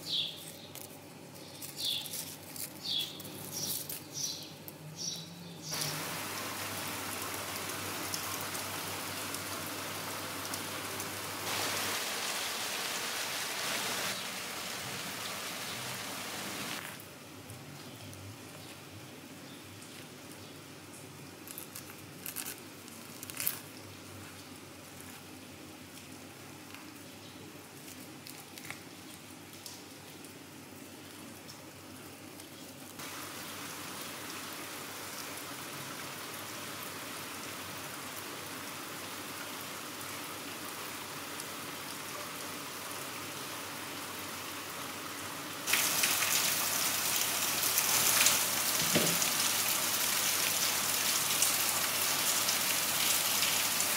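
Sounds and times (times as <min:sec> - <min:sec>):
rainfall: 0:05.6 - 0:53.9.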